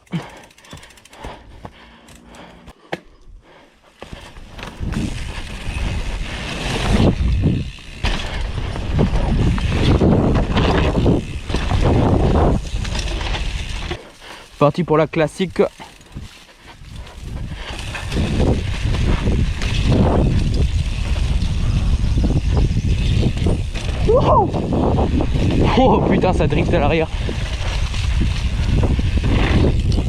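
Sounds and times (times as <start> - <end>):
bike clicks and rattles: 0.0 - 30.0
tyres rumbling on dirt trail: 0.0 - 30.0.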